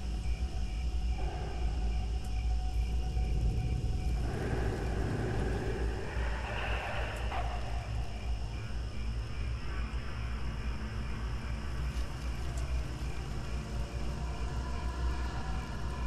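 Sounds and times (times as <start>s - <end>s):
insects chirring: 0.0s - 16.0s
low wind rumble: 0.0s - 16.0s.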